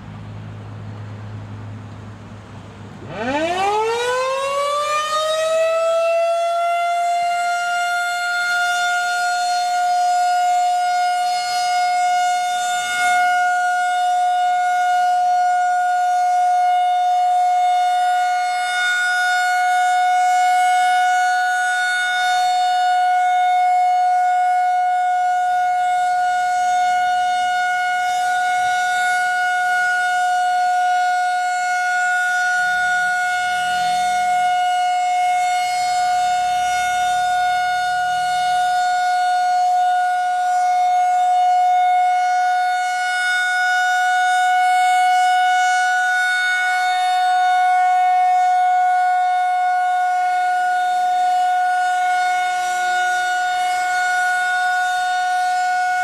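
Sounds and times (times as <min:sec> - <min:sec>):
rotating warning siren: 0:03.0 - 0:56.0.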